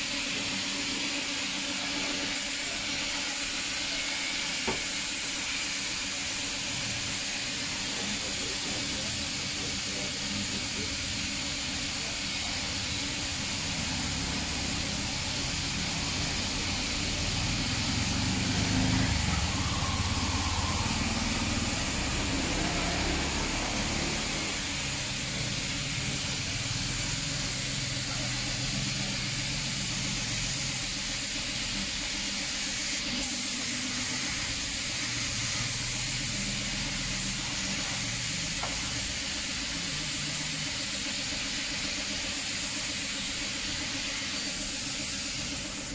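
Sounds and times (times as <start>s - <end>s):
air spray gun hissing: 0.0s - 45.9s.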